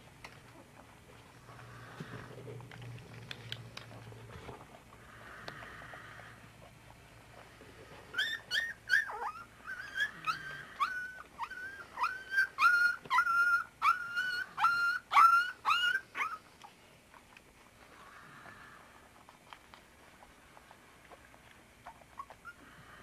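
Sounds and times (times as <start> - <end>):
puppy whining: 3.4 - 17.7, 18.3 - 23.0.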